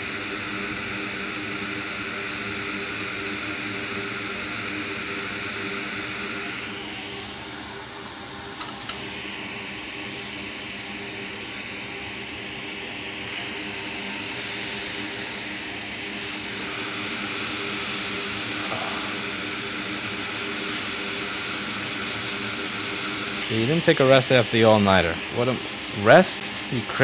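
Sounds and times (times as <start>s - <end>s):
hot air station blowing air: 0.0s - 27.0s.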